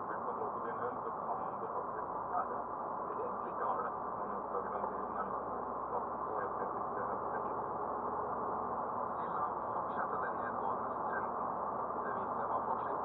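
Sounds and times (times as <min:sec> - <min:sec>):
car interior road and engine noise: 0:00.0 - 0:13.0.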